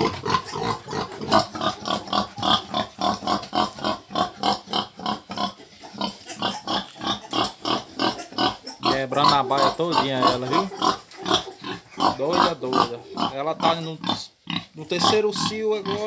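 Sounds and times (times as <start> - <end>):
pig grunting rapidly: 0.0 - 16.0.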